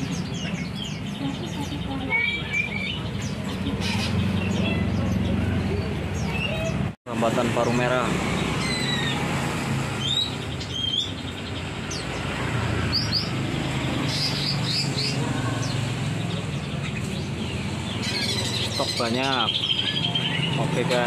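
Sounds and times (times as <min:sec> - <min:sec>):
songbirds chirping and whistling: 0:00.0 - 0:21.0.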